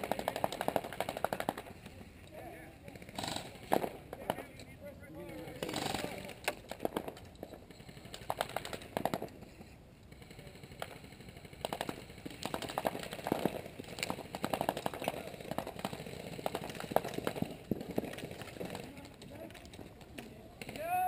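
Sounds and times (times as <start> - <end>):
airsoft guns firing: 0.0 - 2.0, 2.9 - 4.5, 5.6 - 7.2, 7.9 - 9.5, 10.1 - 19.8, 20.5 - 21.0.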